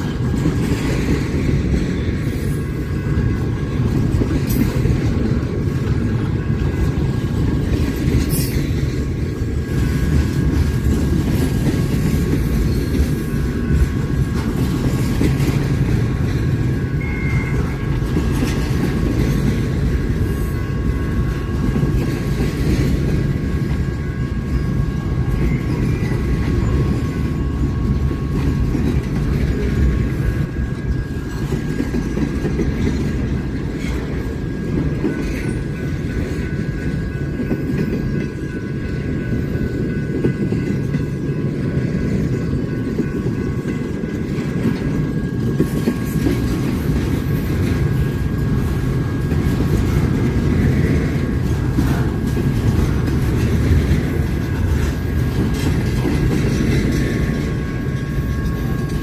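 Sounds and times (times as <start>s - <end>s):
railroad cars rumbling: 0.0s - 59.0s
wheels clacking over rails: 0.0s - 59.0s.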